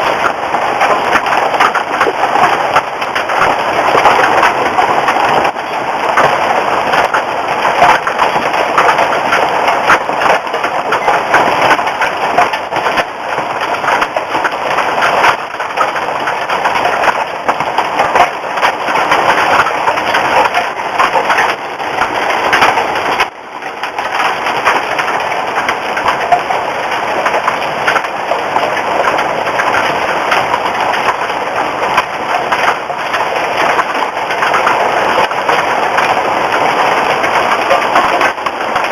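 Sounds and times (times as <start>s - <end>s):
hail and heavy rain clattering: 0.0s - 38.9s.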